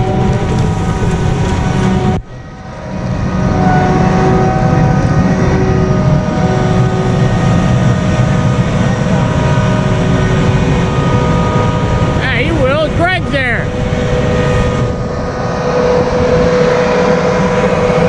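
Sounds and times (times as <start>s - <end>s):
diesel engine droning and whining: 0.0s - 18.0s.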